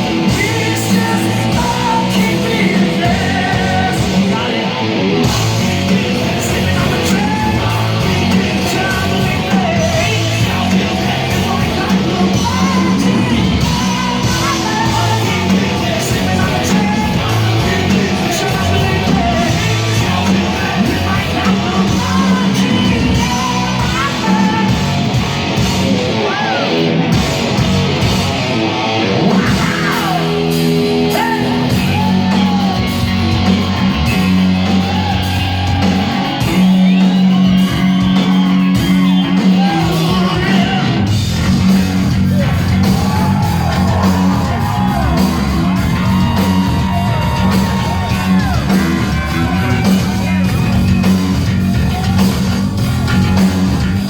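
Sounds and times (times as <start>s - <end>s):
man shouting and wailing singing: 0.0s - 25.0s, 26.1s - 27.0s, 29.2s - 33.4s, 34.6s - 41.1s, 42.3s - 50.4s
live hard rock band: 0.0s - 54.0s.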